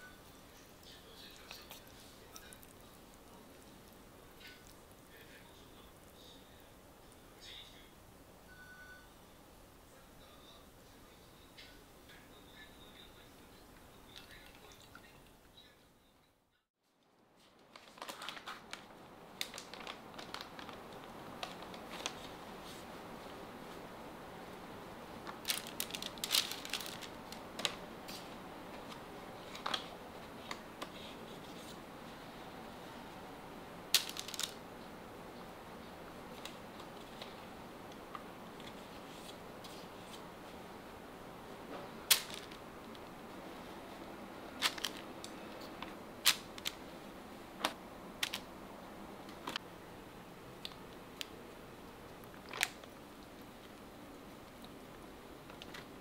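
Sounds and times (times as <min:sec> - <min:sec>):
faint hum: 0:00.0 - 0:56.0.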